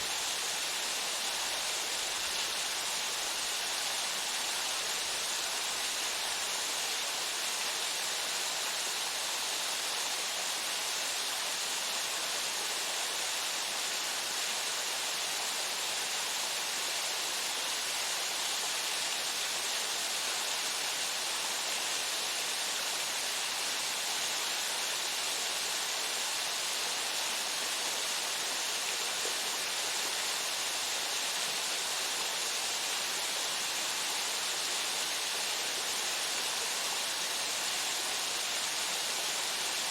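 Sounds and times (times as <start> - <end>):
waterfall pouring into pool: 0.0 - 39.9.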